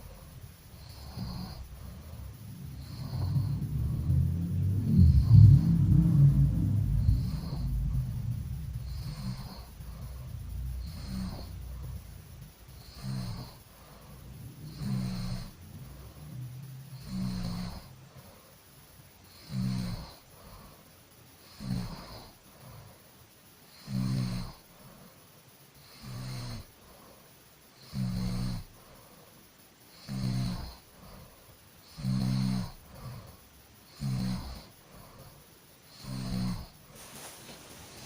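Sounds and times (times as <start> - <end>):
person snoring: 0.0 - 18.6, 19.3 - 20.8, 21.4 - 23.0, 23.7 - 24.9, 25.8 - 26.7, 27.8 - 28.7, 29.9 - 36.9
quiet breathing: 0.0 - 38.0.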